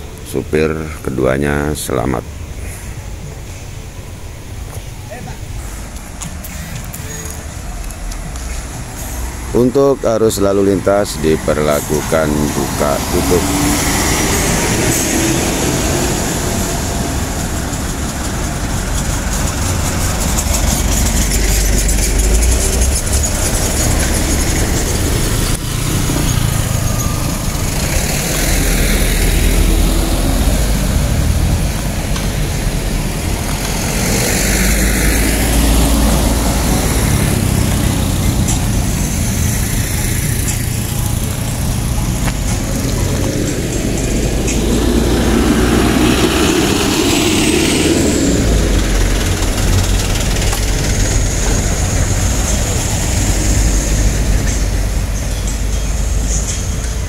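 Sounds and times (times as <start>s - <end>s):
trucks and vehicles passing: 0.0s - 57.0s.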